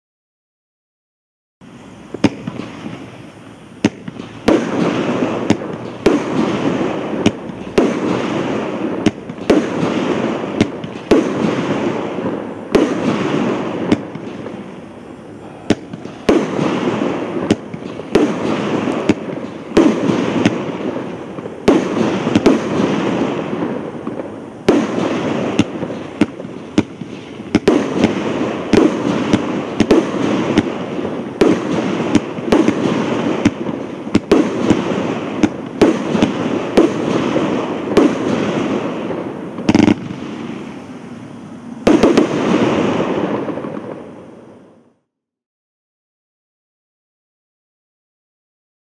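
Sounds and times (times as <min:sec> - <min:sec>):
fireworks cake firing reports: 0:01.6 - 0:44.9
continuous noisy hiss: 0:01.6 - 0:45.2.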